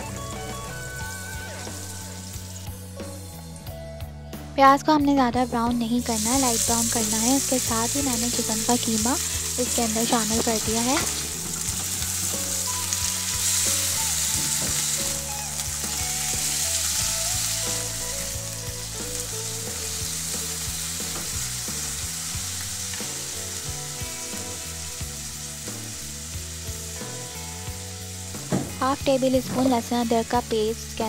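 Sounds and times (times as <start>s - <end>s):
meat and onion sizzling in oil: 0.0s - 3.7s, 5.9s - 31.0s.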